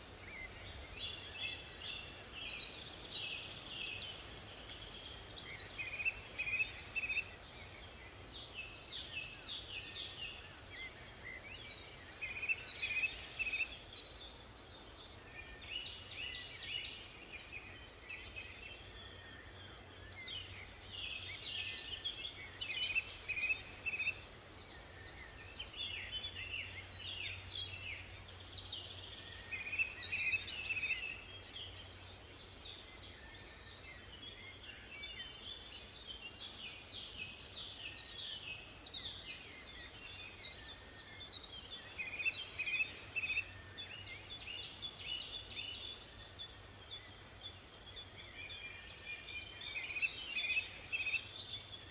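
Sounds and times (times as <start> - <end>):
faint hiss: 0.0 - 51.9
songbirds singing and chirping: 0.0 - 51.9.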